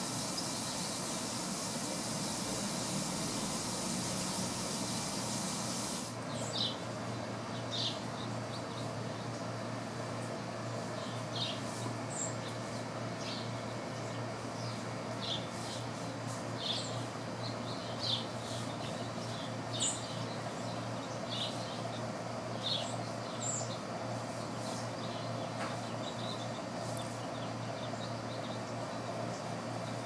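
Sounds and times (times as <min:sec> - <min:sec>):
steady low hum: 0:00.0 - 0:30.0
songbird chirps: 0:03.5 - 0:30.0.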